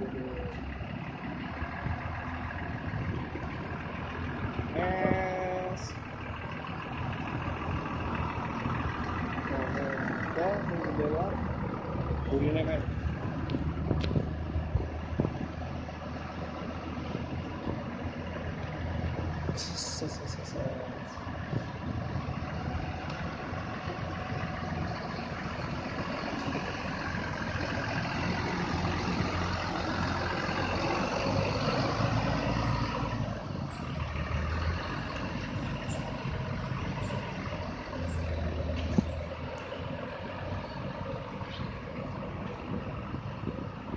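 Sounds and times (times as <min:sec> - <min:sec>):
bus engine running: 0:00.0 - 0:43.9.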